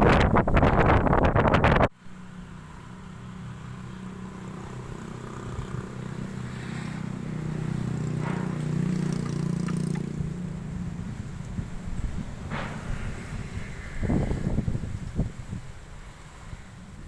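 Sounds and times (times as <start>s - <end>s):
wind buffeting microphone: 0.0s - 1.9s, 4.4s - 17.0s
low engine hum: 1.9s - 17.0s.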